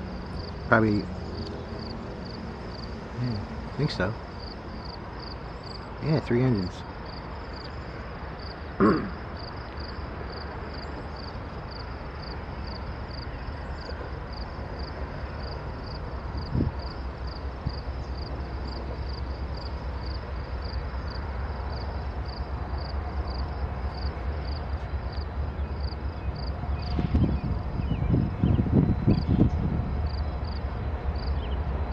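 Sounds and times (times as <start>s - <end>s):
diesel locomotive engine rumble: 0.0s - 31.9s
insect chirping: 0.0s - 31.9s.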